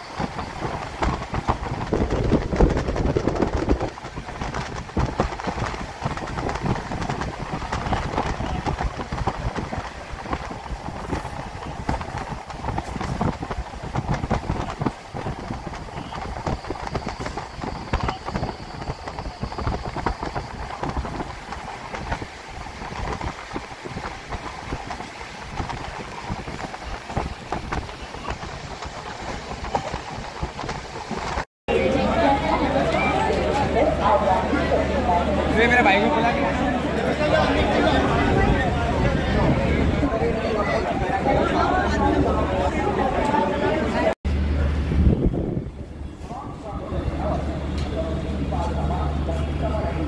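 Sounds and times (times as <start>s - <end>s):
train rumble: 0.0s - 50.0s.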